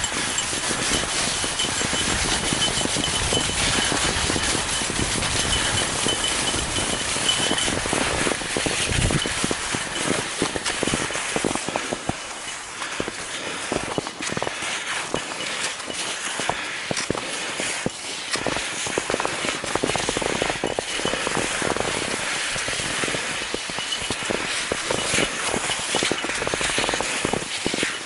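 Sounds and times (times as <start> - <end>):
skis hissing over snow: 0.0 - 28.0
small clicks and rattles: 0.0 - 28.0.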